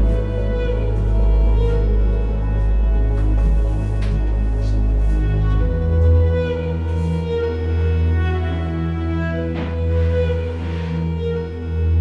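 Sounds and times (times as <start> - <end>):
slow melody of held notes: 0.0 - 12.0
steady low drone: 0.0 - 12.0.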